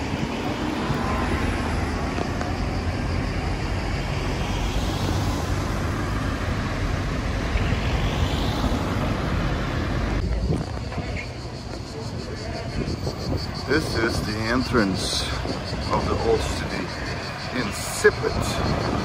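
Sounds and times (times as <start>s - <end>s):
road noise from passing cars: 0.0s - 19.0s.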